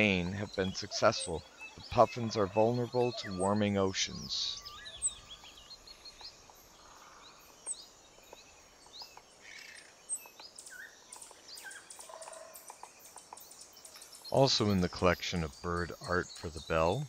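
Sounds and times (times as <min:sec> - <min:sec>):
faint birdsong chirps: 0:00.0 - 0:17.0.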